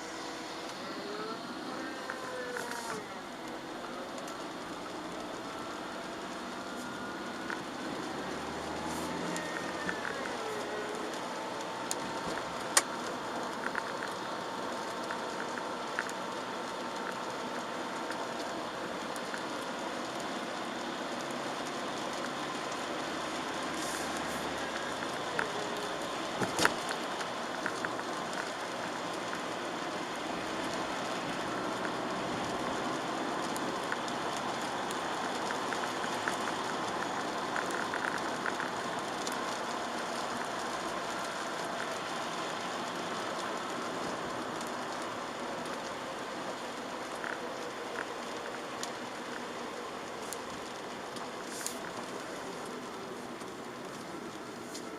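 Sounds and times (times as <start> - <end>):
rain on a car: 0.0 - 54.9
tyres on wet road: 0.0 - 54.9.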